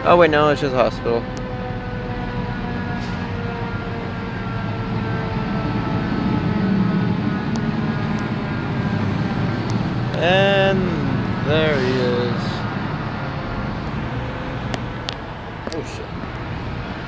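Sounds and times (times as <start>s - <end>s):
traffic engines droning: 0.0s - 17.0s
whining tones: 0.9s - 15.3s.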